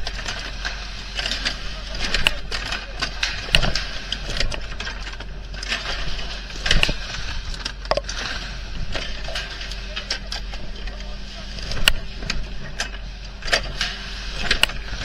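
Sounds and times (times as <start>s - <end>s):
machine knocks and clanks: 0.0s - 15.0s
steady low hum: 0.0s - 15.0s.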